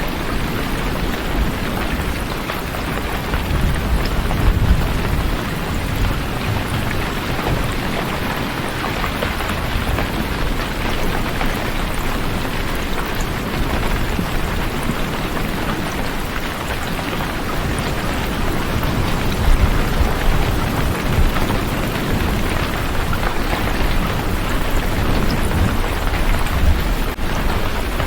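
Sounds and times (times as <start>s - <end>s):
dense rainfall: 0.0s - 28.0s.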